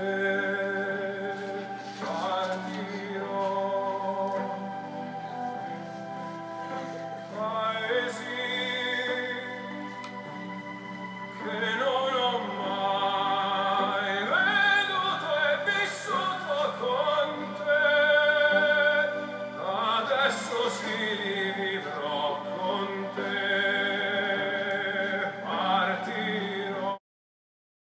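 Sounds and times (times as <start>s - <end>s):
operatic singing with music: 0.0s - 5.3s, 7.0s - 27.0s.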